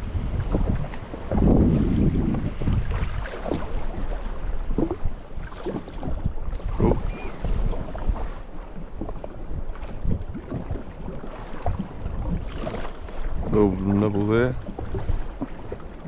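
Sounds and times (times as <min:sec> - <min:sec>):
water slapping against hull: 0:00.0 - 0:16.0
wind buffeting microphone: 0:00.0 - 0:16.0.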